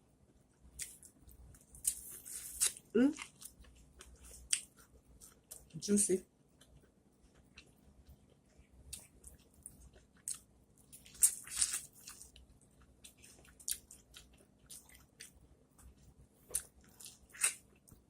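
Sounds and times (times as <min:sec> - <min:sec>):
chewing corn on the cob: 0:00.7 - 0:05.8, 0:06.6 - 0:18.0.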